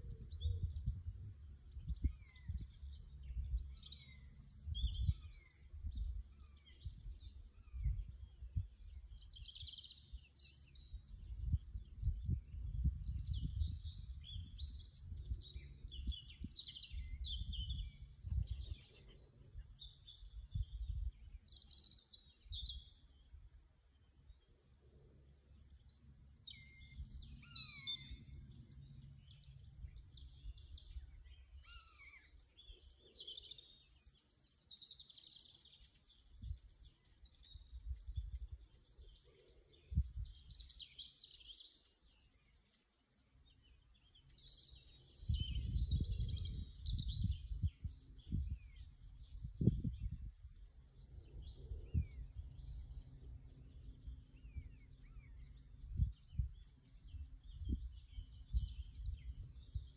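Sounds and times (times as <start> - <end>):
low rumbling microphone noise: 0.0 - 31.7, 36.0 - 41.6, 43.7 - 59.9
songbirds singing and chirping: 0.0 - 59.9.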